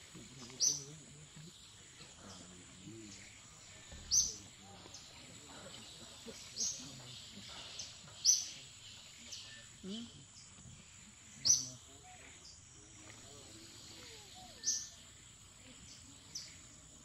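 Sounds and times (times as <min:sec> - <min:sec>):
bird chirping: 0:00.1 - 0:17.0.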